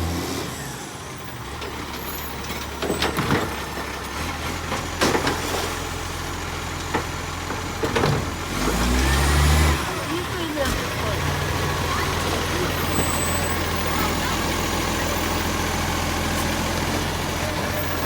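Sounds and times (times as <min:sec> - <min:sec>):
garbage truck engine idling: 0:00.6 - 0:18.0.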